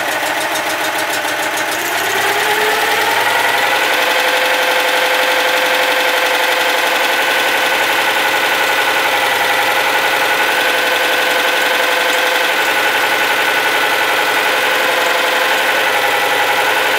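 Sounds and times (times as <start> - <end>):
car engine running: 0.0 - 16.9.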